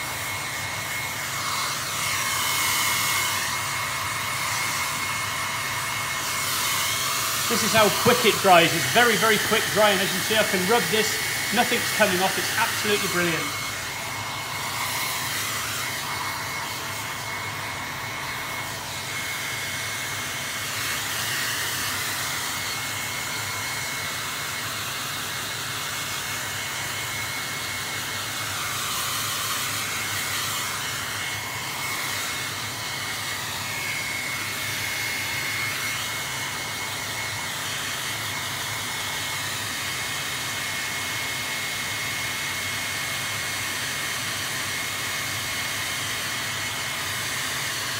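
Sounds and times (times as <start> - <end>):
hair dryer blowing: 0.0 - 47.9.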